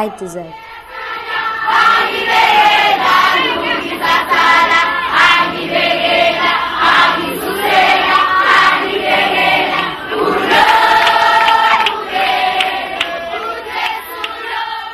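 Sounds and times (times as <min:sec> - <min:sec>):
choir singing: 0:00.0 - 0:14.9.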